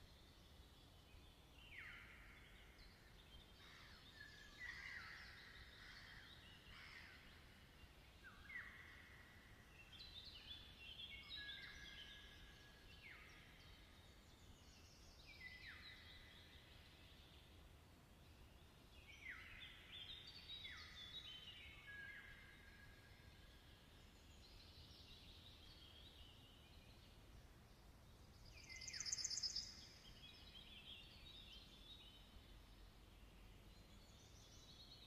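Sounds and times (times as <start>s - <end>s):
faint birdsong: 0.0s - 35.0s.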